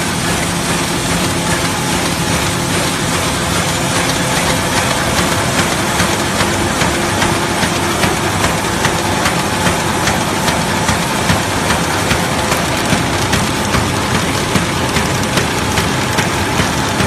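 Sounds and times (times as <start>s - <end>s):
paper bag machine running: 0.0s - 17.0s
regular mechanical knock: 0.8s - 17.0s.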